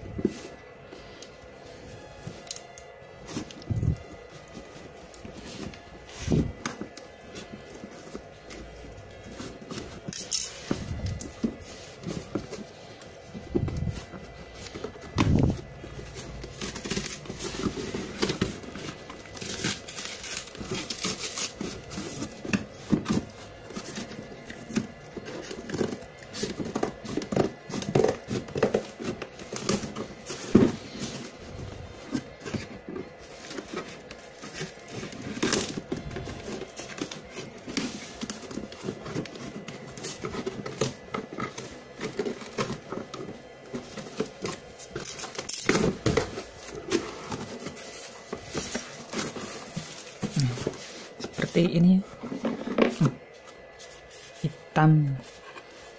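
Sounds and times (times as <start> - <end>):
packing tape peeled and torn: 0.0 - 51.4
cardboard flaps rustling: 3.1 - 55.9.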